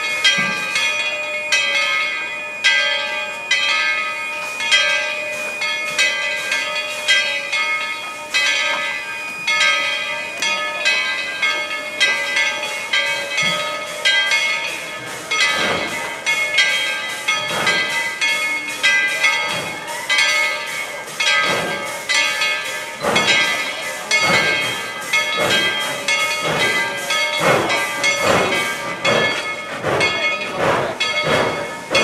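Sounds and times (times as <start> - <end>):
locomotive bell ringing: 0.0 - 32.0.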